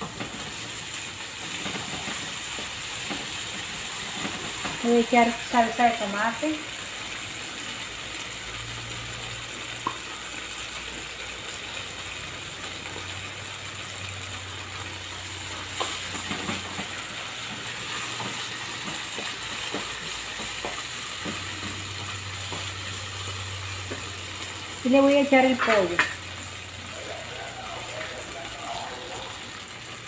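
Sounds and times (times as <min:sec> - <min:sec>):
vegetables sizzling in frying pan: 0:00.0 - 0:30.0.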